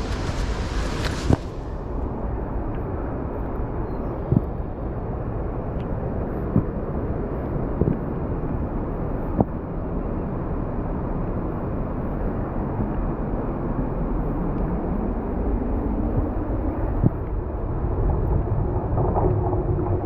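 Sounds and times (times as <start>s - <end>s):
wind buffeting microphone: 0.0s - 10.0s, 10.7s - 20.0s.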